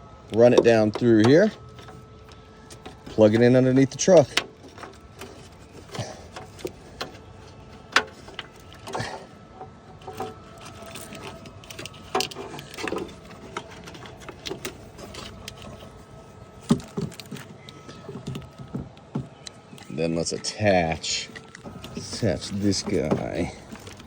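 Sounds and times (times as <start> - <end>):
hands handling plastic plug: 0.3 - 24.0.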